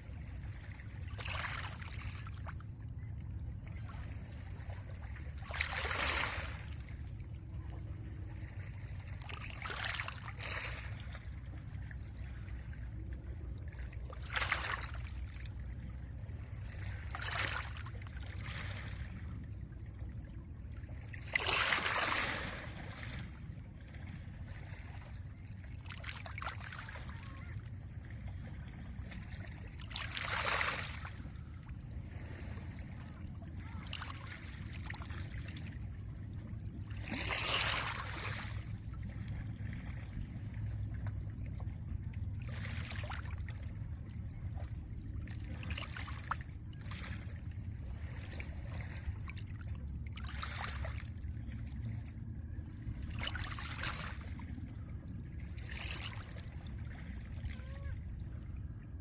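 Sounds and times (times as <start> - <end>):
low rumble of water and wind: 0.0 - 59.0.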